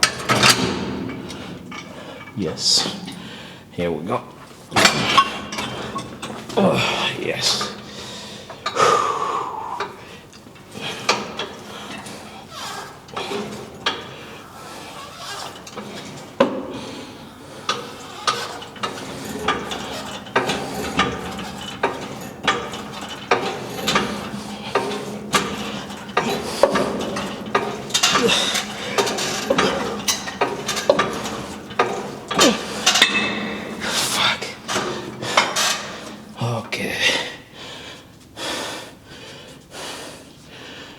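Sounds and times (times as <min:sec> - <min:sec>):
metal weights clanking: 0:00.0 - 0:36.8
gym background noise: 0:00.0 - 0:39.1.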